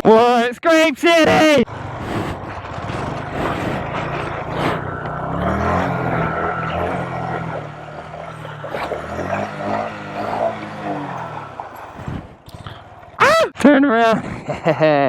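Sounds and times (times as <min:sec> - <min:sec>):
mini bike engine revving: 0:01.2 - 0:13.6.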